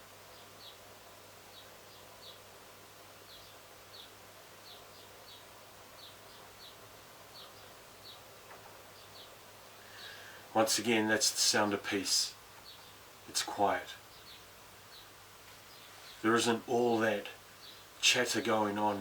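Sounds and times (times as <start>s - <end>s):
small bird chirping: 0.2s - 10.3s, 12.3s - 19.0s.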